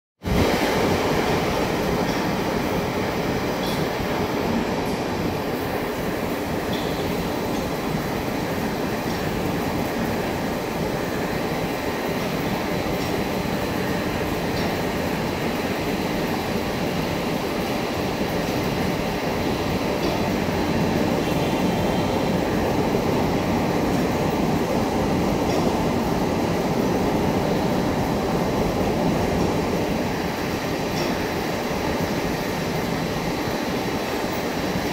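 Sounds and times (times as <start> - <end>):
lathe mechanical rumble and whir: 0.3 - 34.9.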